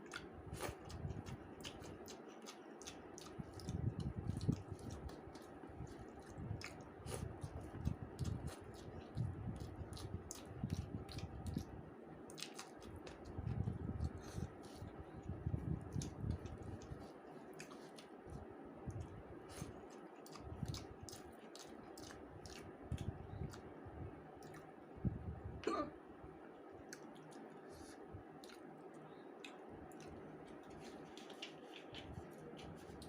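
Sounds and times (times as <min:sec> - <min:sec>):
wet chewing: 0:00.0 - 0:23.6, 0:24.4 - 0:24.8, 0:26.9 - 0:33.0.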